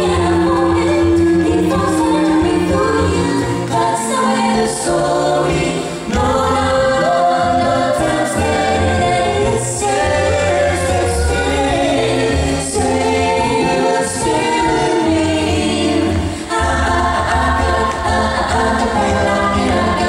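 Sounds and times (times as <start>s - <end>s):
a cappella group singing in harmony: 0.0s - 20.0s.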